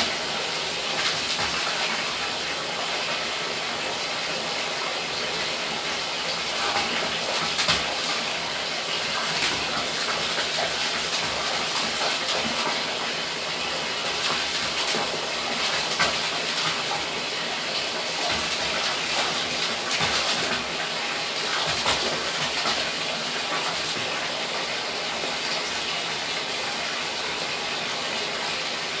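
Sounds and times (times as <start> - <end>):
water splashes: 0.0 - 26.6
faucet running into a tub: 0.0 - 29.0.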